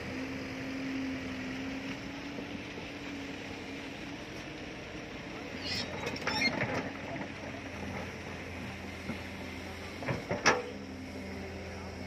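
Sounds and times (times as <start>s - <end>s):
excavator engine running: 0.0s - 12.0s.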